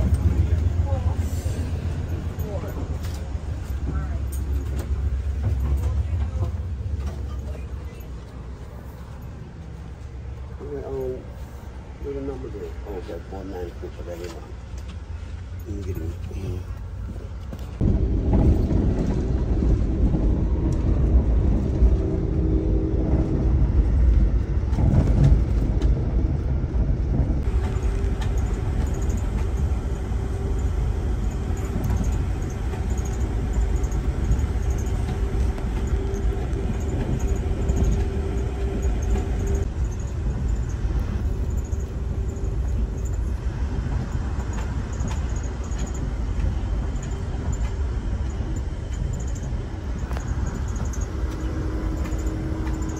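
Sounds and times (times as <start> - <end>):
constant hum tone: 0.0 - 52.9
vehicle rumble from inside cabin: 0.0 - 52.9.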